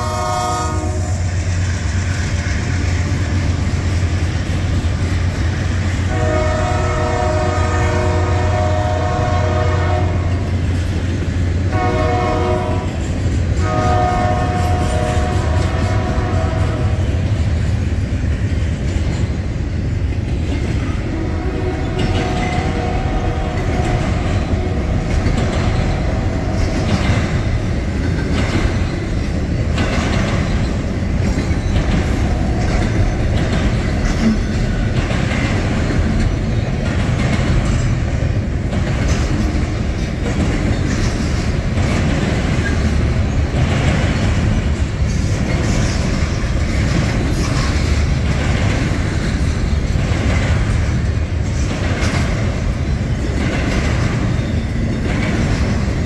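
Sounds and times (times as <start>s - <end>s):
freight train rumbling past: 0.0s - 56.0s
wheels clicking over rail joints: 9.8s - 56.0s.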